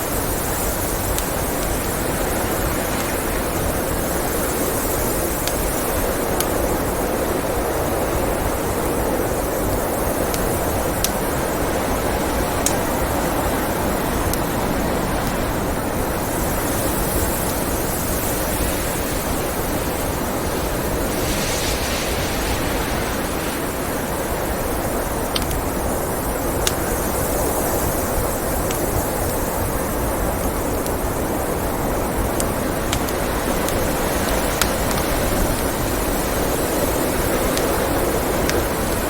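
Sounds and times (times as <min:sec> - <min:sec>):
blizzard wind rushing: 0:00.0 - 0:39.0
wood fire crackling and popping: 0:00.0 - 0:39.0.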